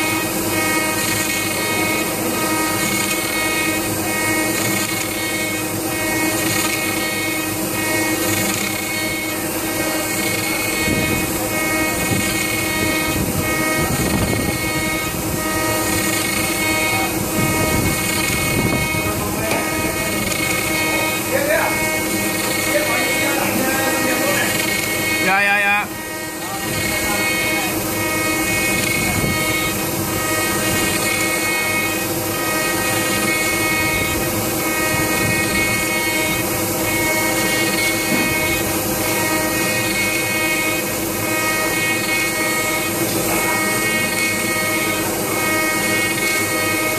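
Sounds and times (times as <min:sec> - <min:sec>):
cutter grinding through wood: 0:00.0 - 0:46.9
router spindle whine: 0:00.0 - 0:46.9.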